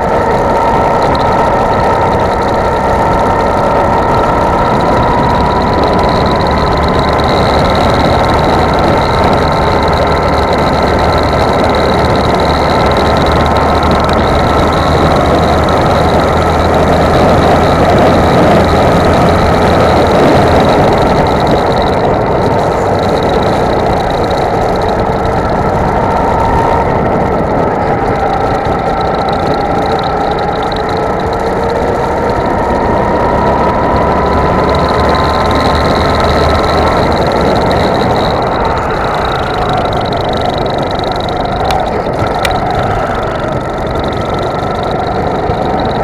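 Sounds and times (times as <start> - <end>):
dense rushing noise: 0.0 - 46.0
go-kart engine running: 0.0 - 46.0.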